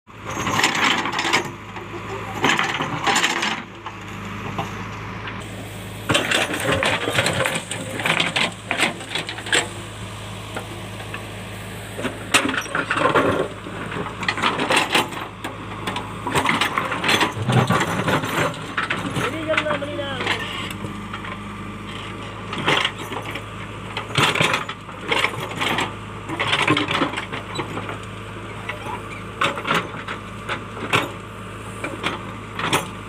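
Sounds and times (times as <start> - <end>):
diesel engine running: 0.1 - 33.0.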